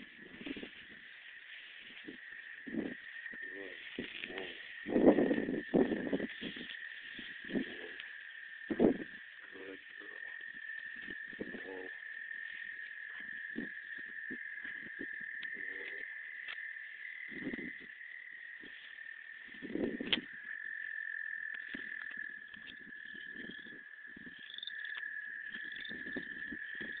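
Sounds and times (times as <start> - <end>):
rustling through dry grass: 0.0 - 27.0.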